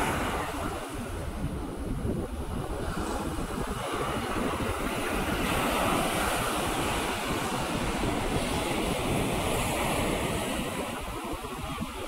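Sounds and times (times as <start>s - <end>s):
small waves breaking on shore: 0.0s - 12.0s
wind buffeting microphone: 0.0s - 12.0s.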